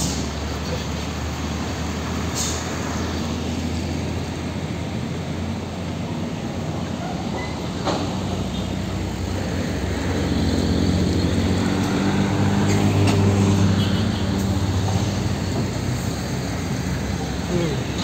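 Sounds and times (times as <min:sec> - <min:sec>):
diesel trucks driving past: 0:00.0 - 0:18.0
tyre and traffic noise: 0:00.0 - 0:18.0.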